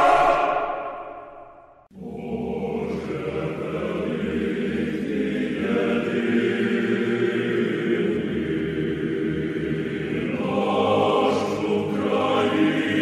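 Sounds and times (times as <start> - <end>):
choir chanting in harmony: 0.0 - 13.0.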